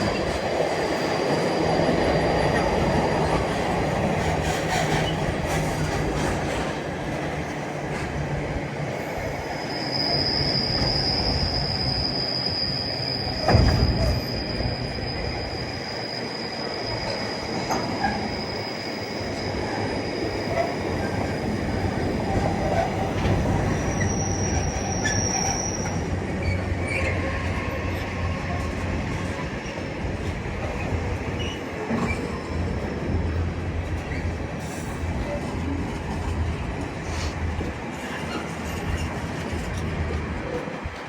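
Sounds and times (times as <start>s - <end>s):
high-pitched train squeal: 0.0s - 6.8s, 8.9s - 32.8s, 33.9s - 40.8s
train rumbling on track: 0.0s - 41.0s.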